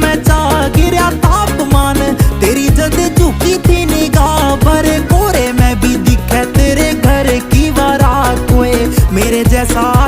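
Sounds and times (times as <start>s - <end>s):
pop song with heavy beat: 0.0s - 10.0s.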